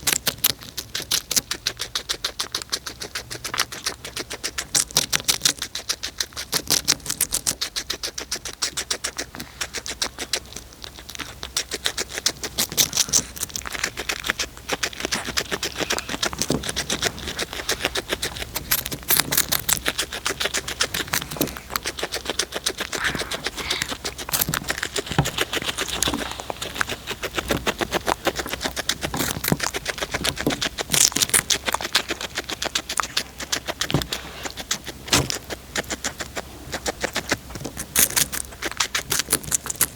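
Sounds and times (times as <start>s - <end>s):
cat crunching food: 0.0s - 39.9s.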